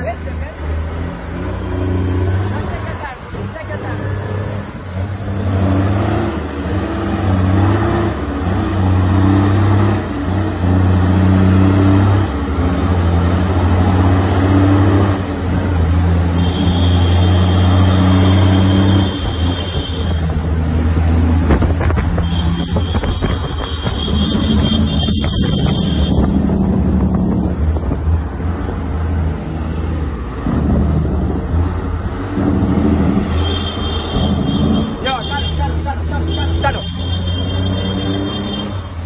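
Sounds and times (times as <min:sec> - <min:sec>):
heavy truck engine shifting gears: 0:00.0 - 0:39.0.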